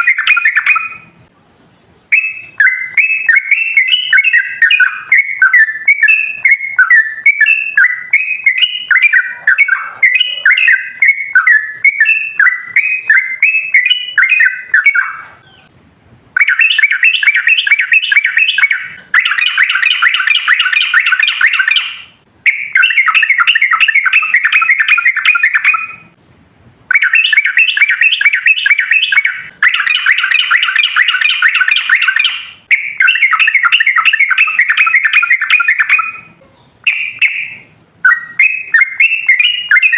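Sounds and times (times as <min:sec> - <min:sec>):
bulbul singing rapid notes: 0:02.1 - 0:15.4, 0:16.4 - 0:26.2, 0:26.9 - 0:39.9.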